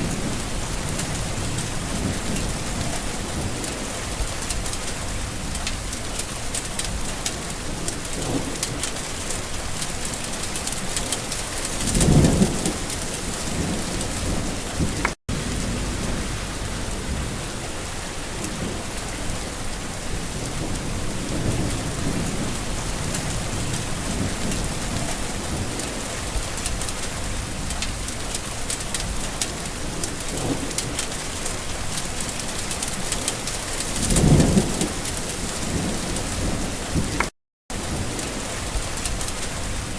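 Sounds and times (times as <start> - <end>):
rain falling: 0.0 - 39.9
thunder rumbling: 0.0 - 39.9.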